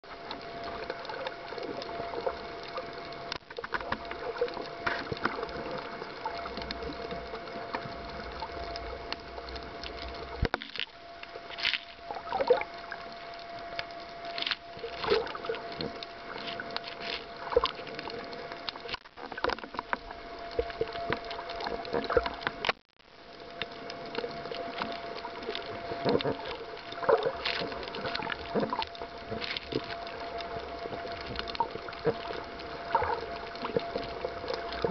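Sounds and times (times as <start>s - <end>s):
crackling clicks: 0.0s - 34.9s
muffled underwater water noise: 0.0s - 34.9s
steady hum: 0.1s - 34.9s.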